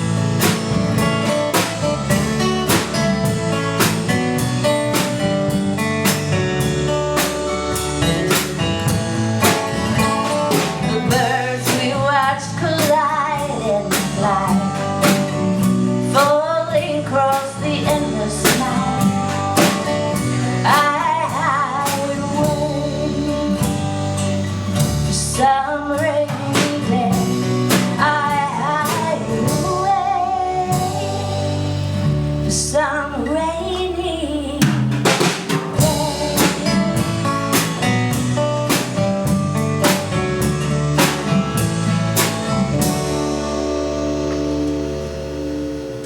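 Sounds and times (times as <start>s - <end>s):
drum kit beat: 0.0s - 32.5s, 34.6s - 46.0s
wavering melodic lead line: 0.0s - 34.7s, 35.8s - 46.0s
guitar: 0.0s - 46.0s.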